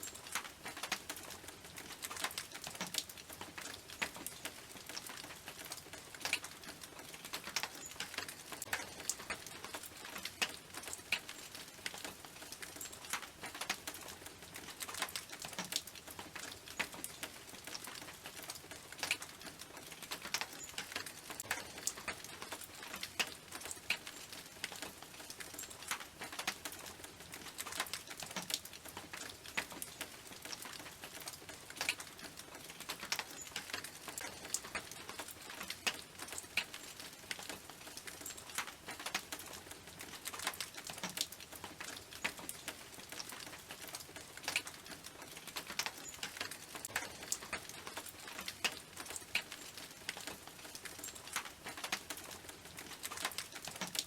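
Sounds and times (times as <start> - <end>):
rain on a tin roof: 0.0 - 54.0.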